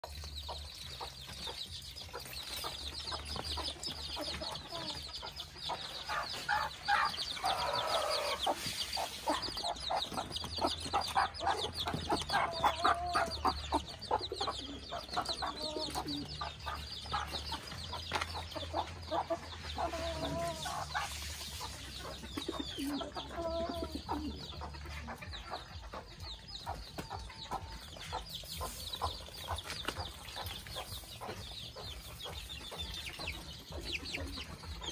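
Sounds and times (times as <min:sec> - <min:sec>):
chickens clucking: 0:00.0 - 0:34.9
drawn-out chicken calls: 0:00.0 - 0:34.9.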